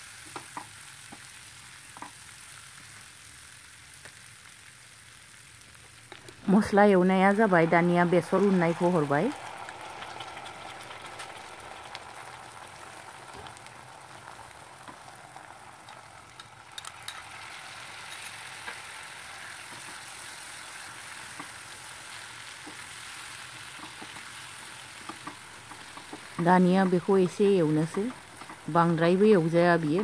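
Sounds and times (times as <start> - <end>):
spices sizzling in oil: 0.0 - 30.0.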